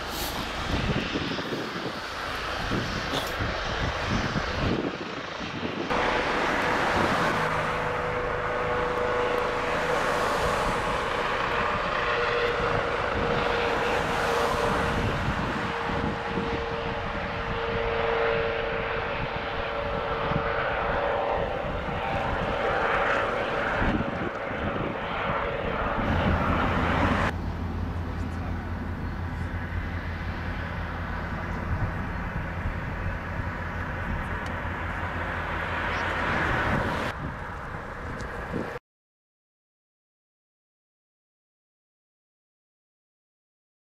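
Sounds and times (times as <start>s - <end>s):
helicopter engine and rotor: 0.0s - 37.0s.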